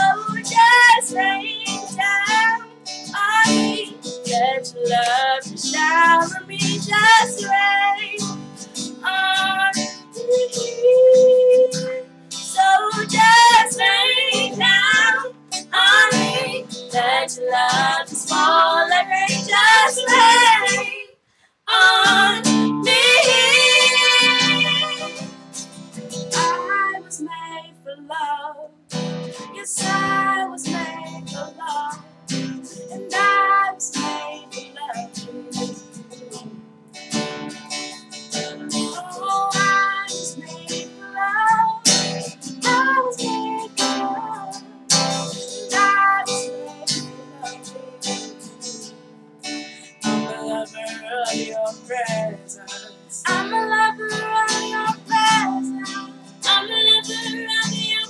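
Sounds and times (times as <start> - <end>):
acoustic guitar strumming: 0.0 - 21.1, 21.7 - 58.0
woman singing wordlessly: 0.0 - 25.3, 26.3 - 28.8, 29.4 - 36.6, 38.5 - 49.0, 49.9 - 58.0.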